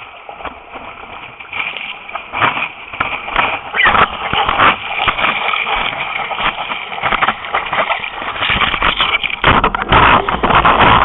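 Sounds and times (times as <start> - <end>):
whitewater splashing on paddleboard: 0.0 - 11.0.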